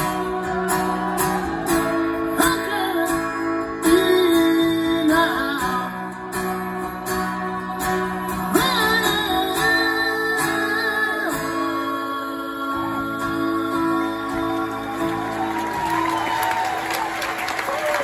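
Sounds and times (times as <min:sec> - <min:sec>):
acoustic guitar strumming: 0:00.0 - 0:16.3.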